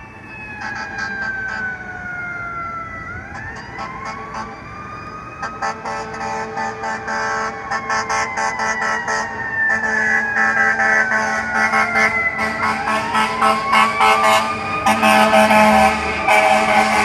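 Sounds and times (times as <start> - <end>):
wailing siren: 0.0 - 17.0
fire engine air horn blasts: 0.6 - 1.7, 3.3 - 4.6, 5.4 - 17.0.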